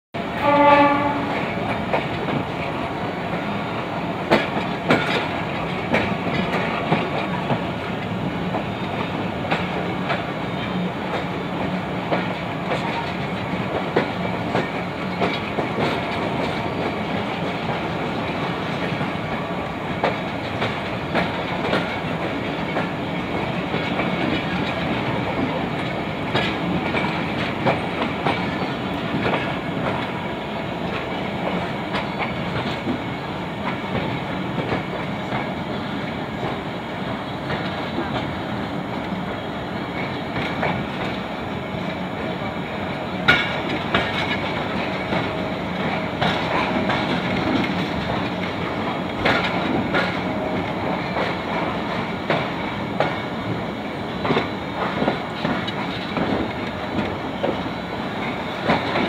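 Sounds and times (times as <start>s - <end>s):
train carriages rumbling: 0.2s - 59.0s
wheels clacking over rail joints: 0.7s - 59.0s.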